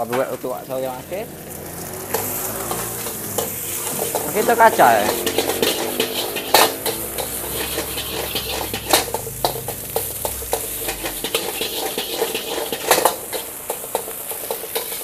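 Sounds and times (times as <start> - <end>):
rice sizzling in a wok: 0.0 - 15.0
ladle clanking on wok: 1.6 - 15.0.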